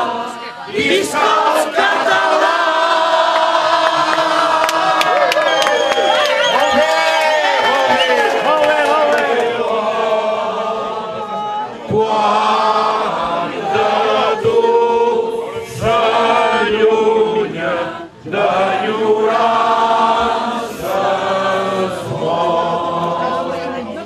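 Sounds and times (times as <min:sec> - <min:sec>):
group singing together: 0:00.0 - 0:05.2, 0:08.0 - 0:24.0.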